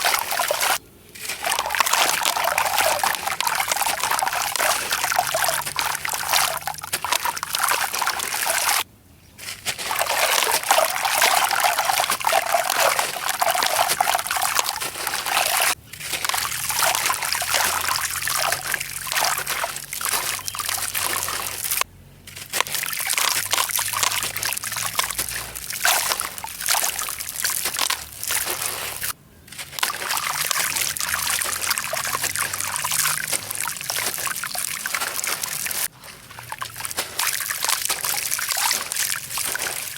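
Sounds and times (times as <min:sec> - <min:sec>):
sand and concrete crumbling: 0:00.0 - 0:39.9.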